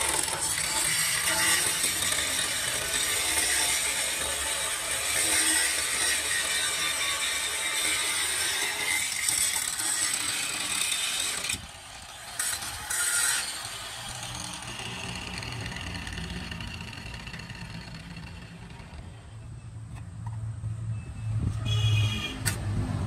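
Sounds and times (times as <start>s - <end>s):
angle grinder grinding metal: 0.0s - 19.1s.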